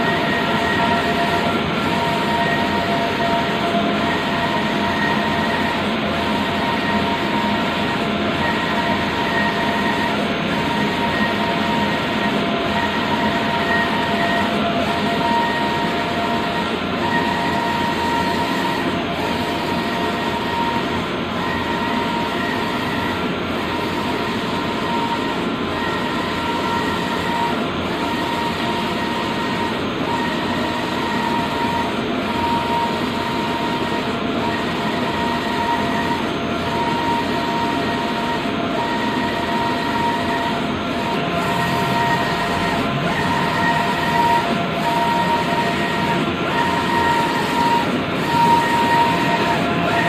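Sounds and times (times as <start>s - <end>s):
inkjet printer running: 0.0s - 50.0s.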